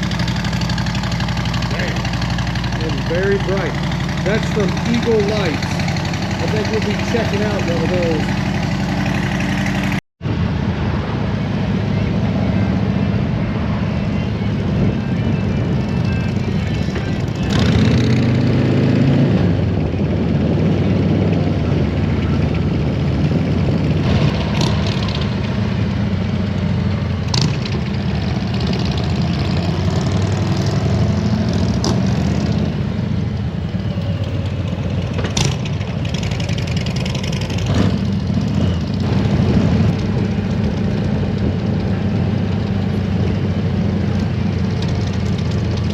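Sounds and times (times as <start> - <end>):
motorcycle engine running: 0.0 - 10.0, 13.2 - 45.9.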